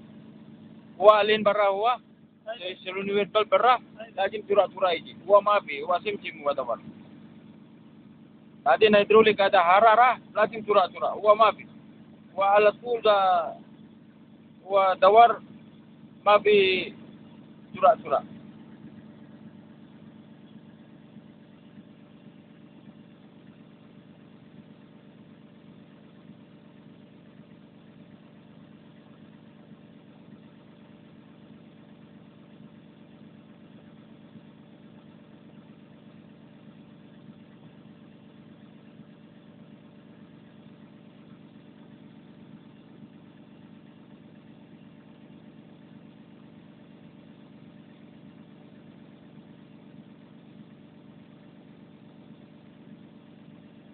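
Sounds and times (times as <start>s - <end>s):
excavator diesel engine idling: 0.0s - 53.9s.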